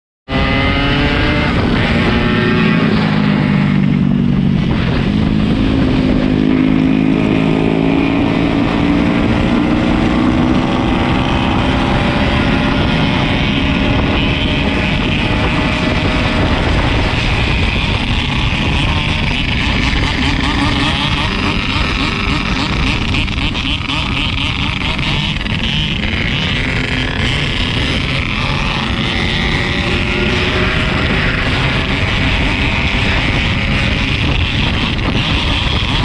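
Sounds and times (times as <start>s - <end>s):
two-stroke motorcycle engine running: 0.3s - 36.0s.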